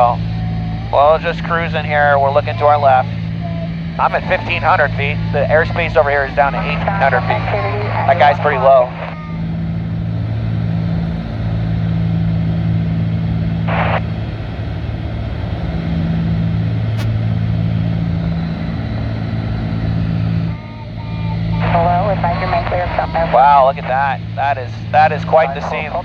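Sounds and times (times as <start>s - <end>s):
propeller engines droning: 0.0s - 26.0s.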